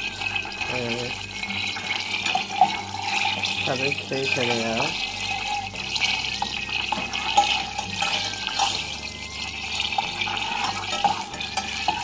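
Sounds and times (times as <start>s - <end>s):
butter sizzling in a pot: 0.0s - 12.0s.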